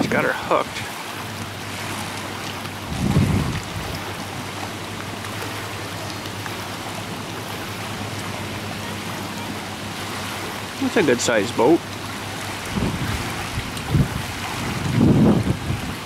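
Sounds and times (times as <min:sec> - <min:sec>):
wind buffeting microphone: 0:00.0 - 0:10.9, 0:11.8 - 0:16.0
water washing against a ramp: 0:00.0 - 0:16.0.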